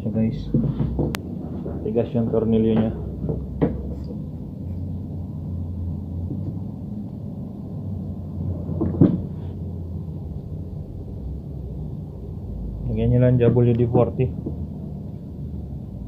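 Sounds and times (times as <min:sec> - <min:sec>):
low handling rumble: 0:00.0 - 0:16.0.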